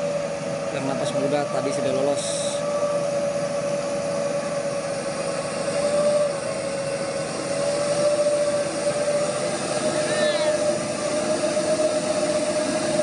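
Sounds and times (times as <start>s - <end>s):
diesel truck engine labouring: 0.0s - 13.0s.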